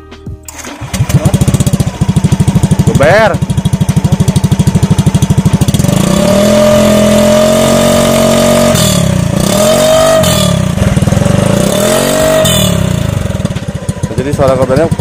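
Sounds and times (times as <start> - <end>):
scooter engine revving: 0.5 - 15.0.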